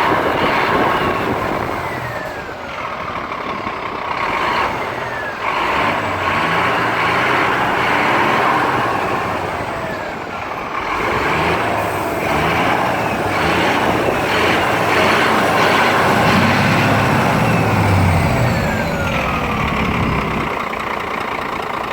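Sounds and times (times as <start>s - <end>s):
truck diesel engine running: 0.0s - 21.9s.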